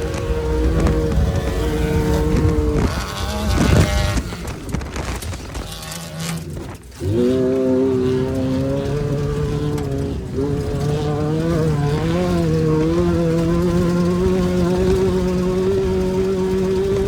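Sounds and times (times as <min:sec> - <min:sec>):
engine accelerating: 0:00.0 - 0:17.0
engine revving pass: 0:00.0 - 0:17.0
race vehicle engine running: 0:00.0 - 0:17.0.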